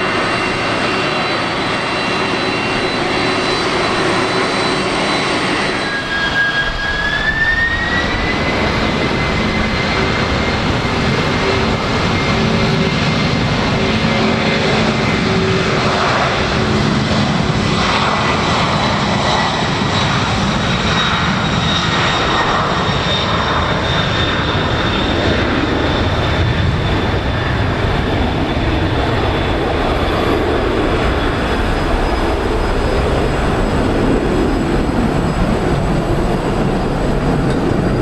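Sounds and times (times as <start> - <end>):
jet engines at take-off: 0.0 - 38.0.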